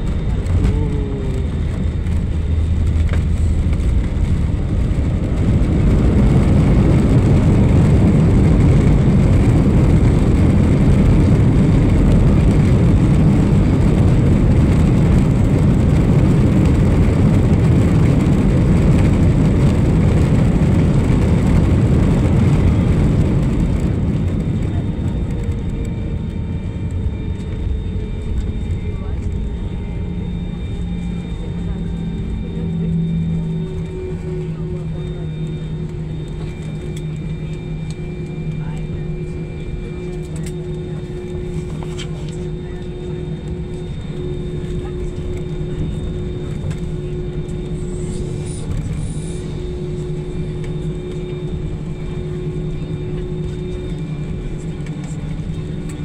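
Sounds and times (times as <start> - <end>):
jet engines inside cabin: 0.0 - 56.0.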